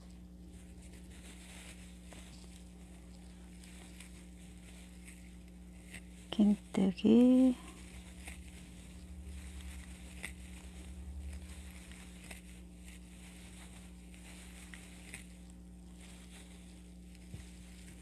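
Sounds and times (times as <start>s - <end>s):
crochet hook rubbing yarn: 0.0s - 18.0s
low electrical hum: 0.0s - 18.0s
low fluttering rumble: 0.0s - 18.0s.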